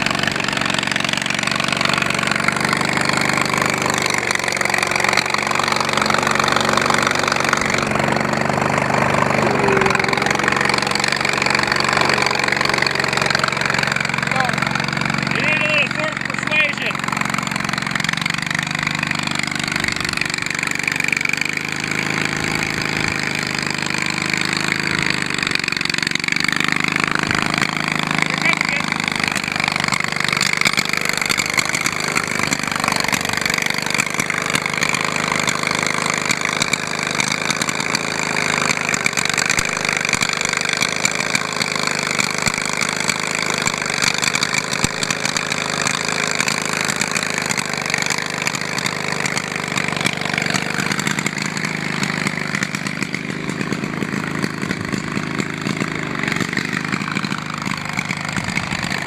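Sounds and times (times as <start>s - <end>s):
riding mower engine running: 0.0s - 59.0s.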